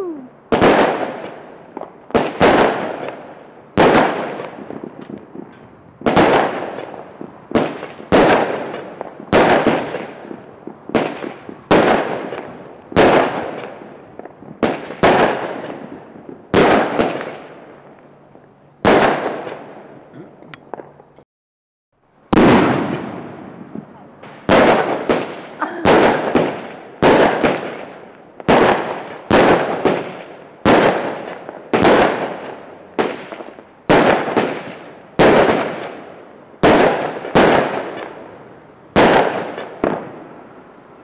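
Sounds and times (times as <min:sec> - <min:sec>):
fireworks bangs: 0:00.0 - 0:20.1, 0:22.3 - 0:40.7.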